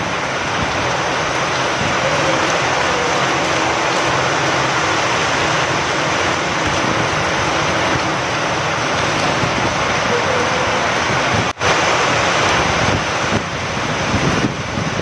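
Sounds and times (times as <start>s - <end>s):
heavy rain with wind: 0.0s - 15.0s.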